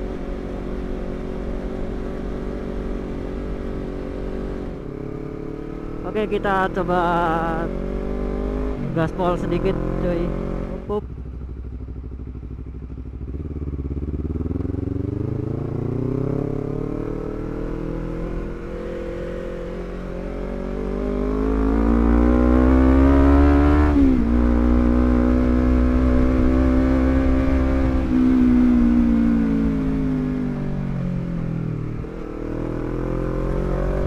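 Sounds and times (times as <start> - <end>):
motorcycle exhaust accelerating: 0.0 - 34.0.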